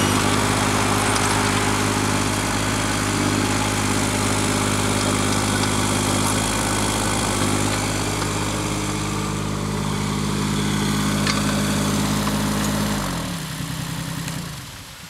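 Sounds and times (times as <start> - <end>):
small excavator engine running: 0.0 - 15.0.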